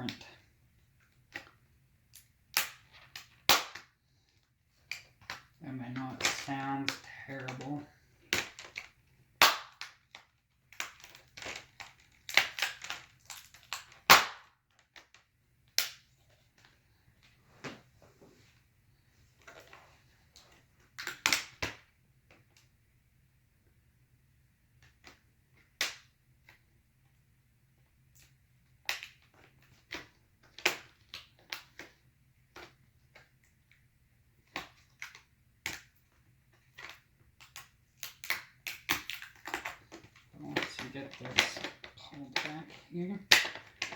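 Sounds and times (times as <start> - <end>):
plastic clips cracking and popping: 1.3 - 17.3, 20.4 - 22.7, 24.8 - 26.6, 28.1 - 33.8, 34.4 - 43.9.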